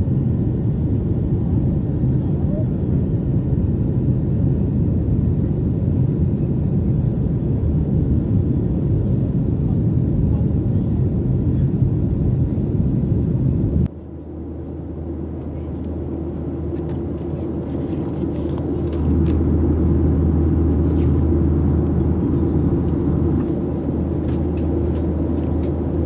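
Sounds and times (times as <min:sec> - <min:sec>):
jet cabin engine rumble: 0:00.0 - 0:26.0.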